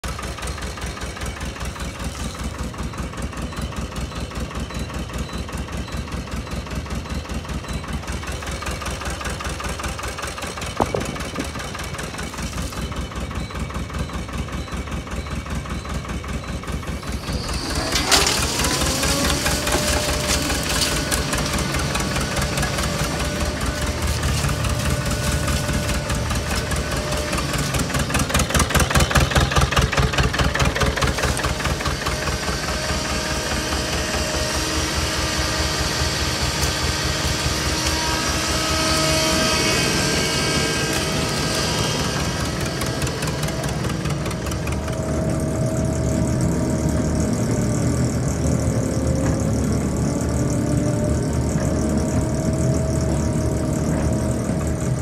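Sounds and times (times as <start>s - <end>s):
engine idling: 0.0s - 55.0s
rising drive whine: 0.0s - 55.0s.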